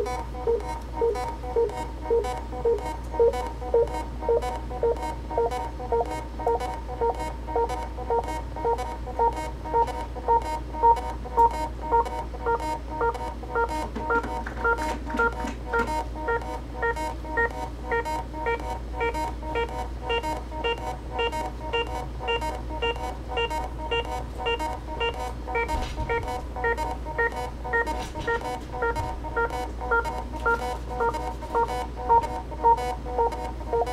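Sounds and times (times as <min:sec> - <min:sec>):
looping electronic beeps: 0:00.0 - 0:33.9
low steady hum: 0:00.0 - 0:33.9.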